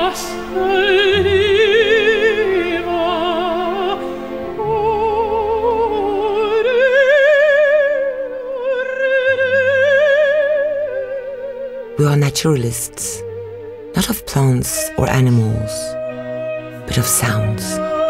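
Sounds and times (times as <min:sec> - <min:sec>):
operatic singing with vibrato: 0:00.0 - 0:18.0.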